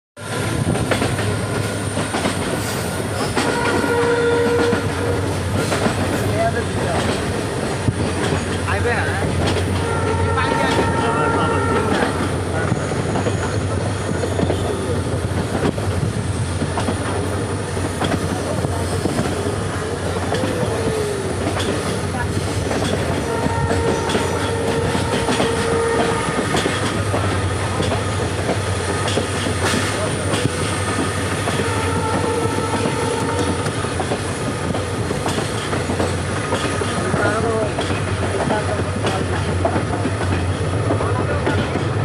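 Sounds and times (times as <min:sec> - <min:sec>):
train wheels clattering on rails: 0:00.2 - 0:42.0.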